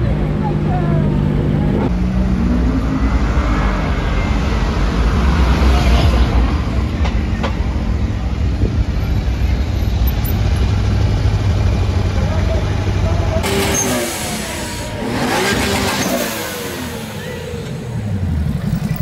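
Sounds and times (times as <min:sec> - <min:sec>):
car engines in traffic: 0:00.0 - 0:19.0.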